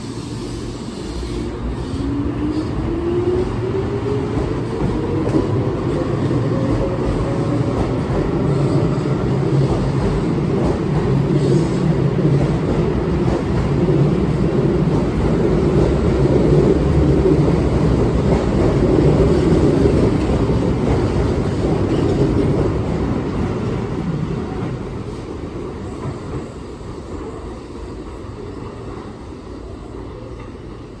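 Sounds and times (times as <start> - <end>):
rumble of train cars passing: 0.0 - 31.0.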